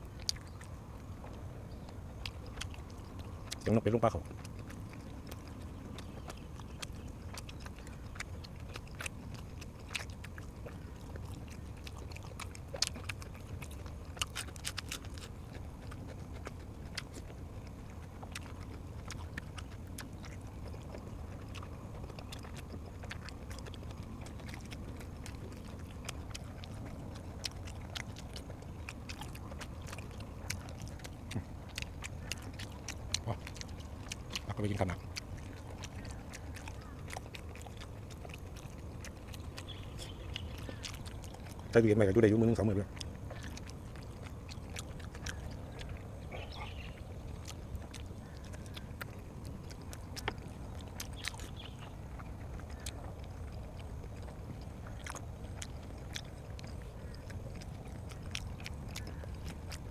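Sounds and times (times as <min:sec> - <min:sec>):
mouth clicks and crunches: 0:00.0 - 0:59.9
person chewing food: 0:00.0 - 0:59.9
steady low hum: 0:00.0 - 0:59.9.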